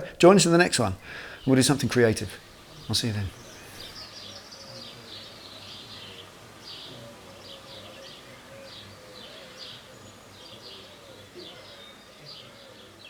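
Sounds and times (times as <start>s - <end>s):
faint steady hum: 0.0s - 12.3s
birds chirping: 0.0s - 13.0s.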